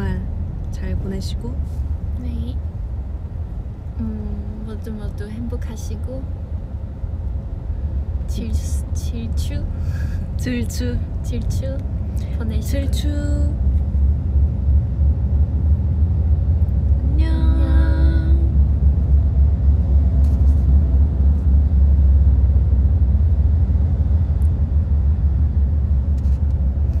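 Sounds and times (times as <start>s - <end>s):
vehicle rumble: 0.0s - 27.0s.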